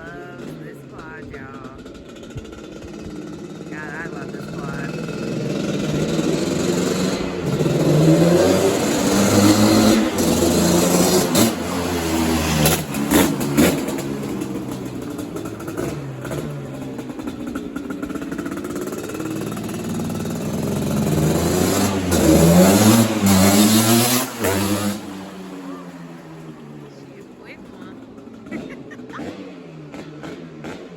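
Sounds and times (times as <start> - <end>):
two-stroke engine revving: 0.0 - 30.9.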